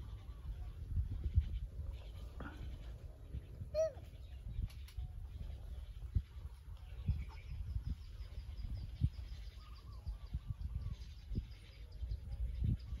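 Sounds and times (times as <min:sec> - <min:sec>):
birds chirping: 0:00.0 - 0:13.0
low wind rumble: 0:00.0 - 0:13.0.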